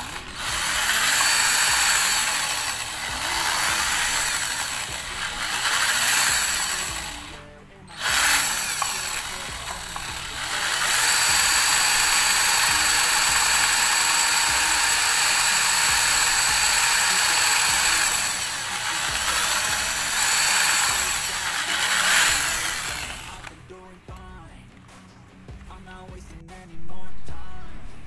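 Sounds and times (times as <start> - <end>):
electric drill whining: 0.0 - 23.7.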